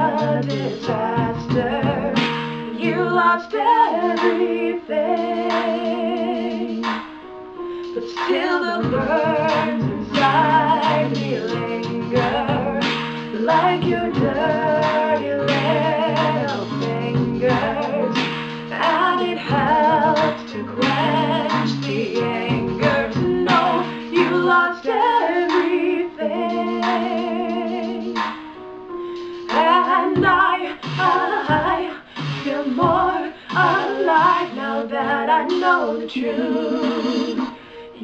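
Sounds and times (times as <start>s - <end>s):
woman singing with vibrato: 0.0s - 7.0s, 8.0s - 28.2s, 29.5s - 38.0s
instrumental backing with bass: 0.0s - 37.9s.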